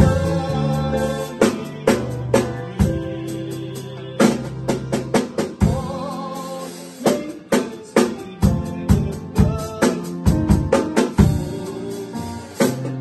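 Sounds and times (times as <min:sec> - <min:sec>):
drum beat of bass and snare: 0:00.0 - 0:13.0
electronic keyboard chords: 0:00.0 - 0:13.0.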